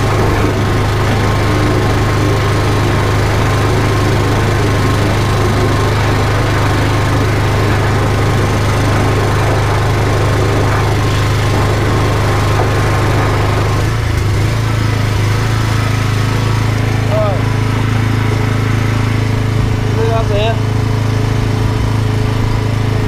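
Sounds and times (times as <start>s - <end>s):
jetting hose working in drain: 0.0s - 23.0s
small engine droning: 0.0s - 23.0s.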